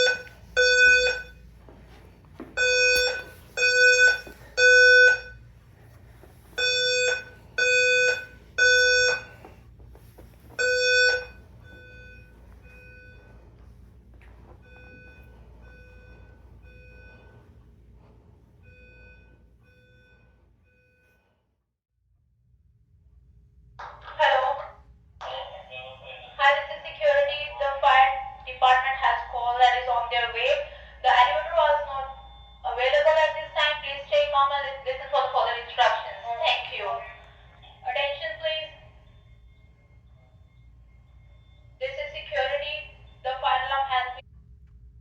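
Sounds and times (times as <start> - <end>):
fire alarm beeping: 0.0 - 21.4, 25.9 - 44.2.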